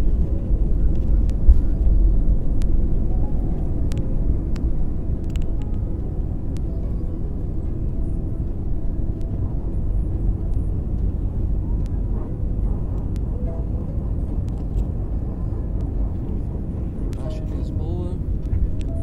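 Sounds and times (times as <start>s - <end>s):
jet engines roaring in cabin: 0.0s - 19.0s.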